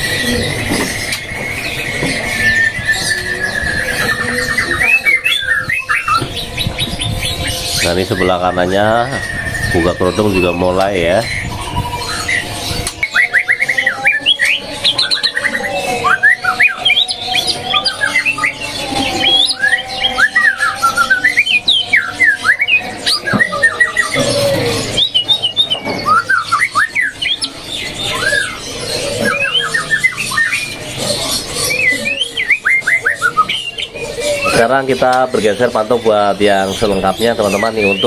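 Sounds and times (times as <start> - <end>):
bird singing varied song: 0.0 - 38.0.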